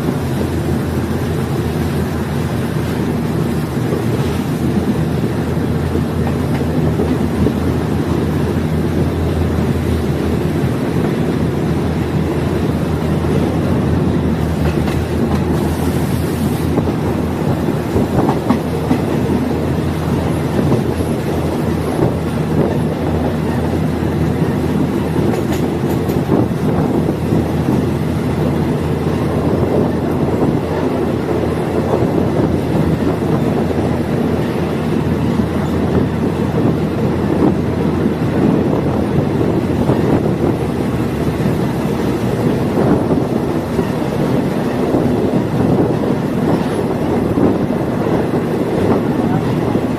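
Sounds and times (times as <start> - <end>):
train engine and rolling noise: 0.0 - 49.9
wheels clicking over rail joints: 0.0 - 49.9.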